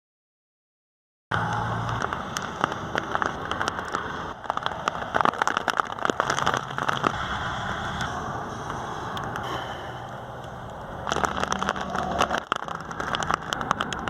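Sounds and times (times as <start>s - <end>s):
raindrops ticking near microphone: 1.3s - 14.0s
rain falling: 1.4s - 14.0s.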